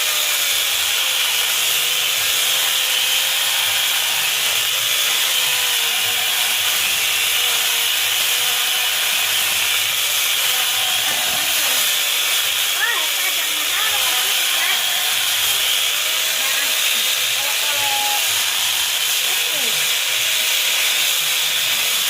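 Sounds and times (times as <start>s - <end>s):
electric chainsaw cutting wood: 0.0s - 22.0s.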